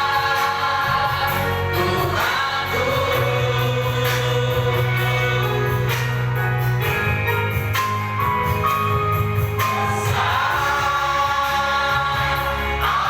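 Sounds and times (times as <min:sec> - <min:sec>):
bass line: 0:00.0 - 0:13.0
percussion beat: 0:00.0 - 0:13.0.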